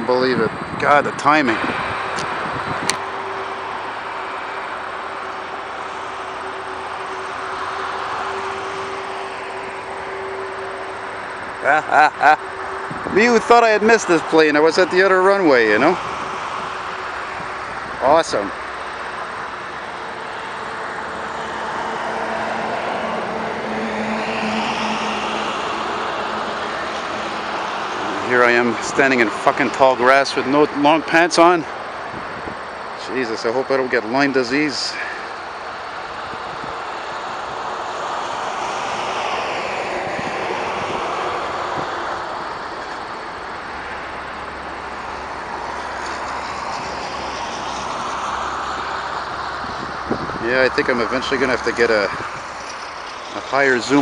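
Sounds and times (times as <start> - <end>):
jet airliner engines rushing: 0.0 - 54.0.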